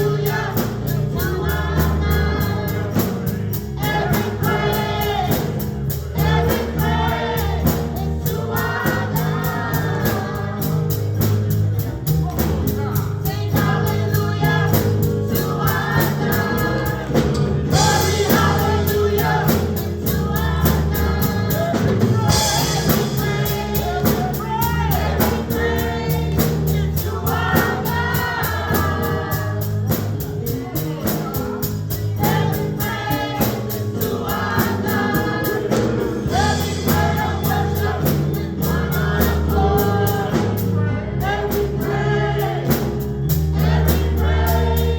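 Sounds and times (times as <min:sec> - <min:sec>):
bass: 0:00.0 - 0:44.9
choir singing: 0:00.0 - 0:44.9
drums beating: 0:00.0 - 0:44.9.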